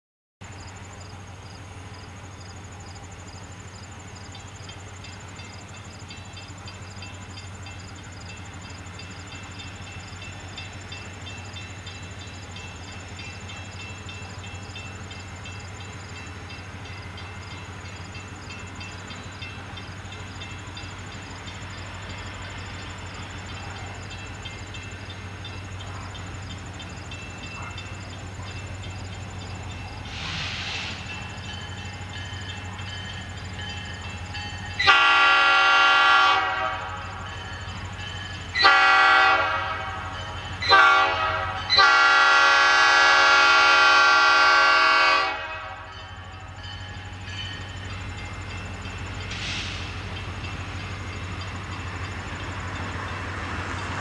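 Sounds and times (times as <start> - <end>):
diesel locomotive engine rumbling: 0.4 - 54.0.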